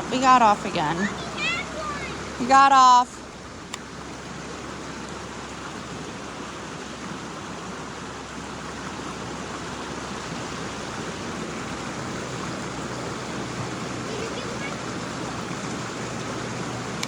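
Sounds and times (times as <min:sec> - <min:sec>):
creek water over rocks: 0:00.0 - 0:17.0.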